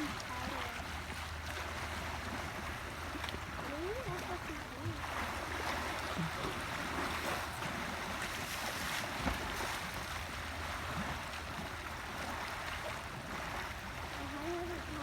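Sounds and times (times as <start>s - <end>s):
water rushing and sloshing: 0.0s - 15.0s.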